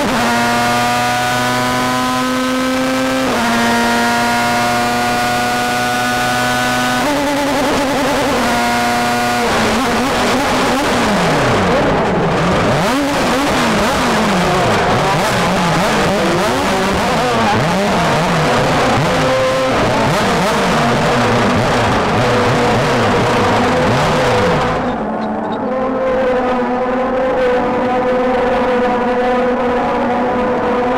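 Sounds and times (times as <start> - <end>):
race car engine revving: 0.0 - 30.9.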